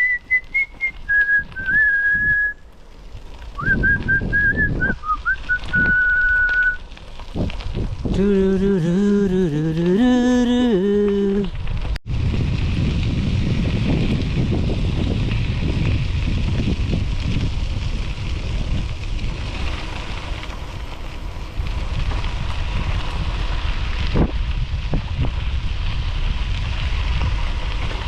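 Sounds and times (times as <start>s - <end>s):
wind buffeting microphone: 0.0s - 2.6s, 3.2s - 28.0s
bicycle tyres on gravel: 0.0s - 28.0s.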